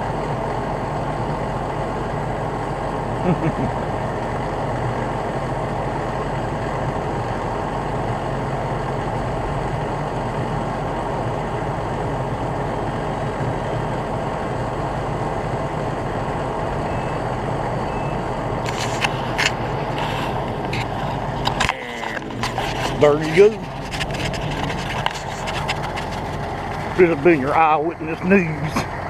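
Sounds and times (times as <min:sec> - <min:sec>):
heavy truck engine idling: 0:00.0 - 0:29.0.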